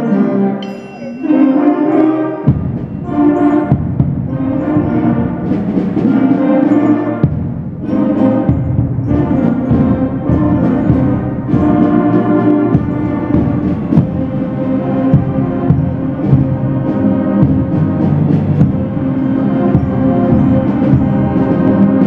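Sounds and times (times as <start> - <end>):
concert band playing: 0.0 - 22.0
percussion strokes: 0.0 - 22.0
tuba low notes: 0.0 - 22.0.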